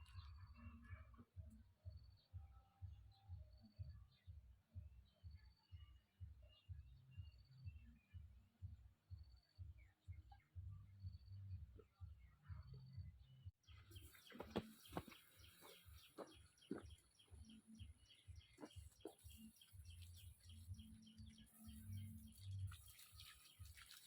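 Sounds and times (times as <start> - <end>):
faint bird chirping: 0.0 - 24.0.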